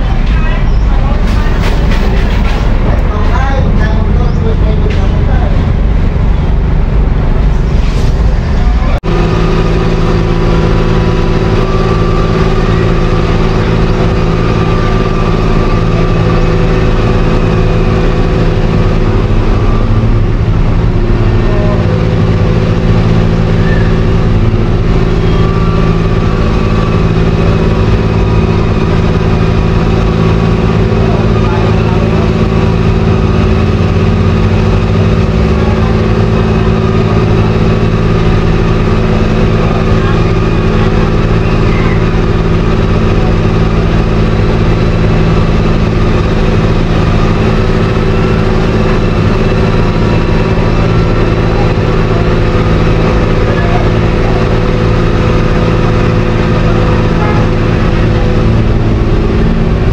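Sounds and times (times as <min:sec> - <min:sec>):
heavy engine running: 0:00.0 - 0:59.9.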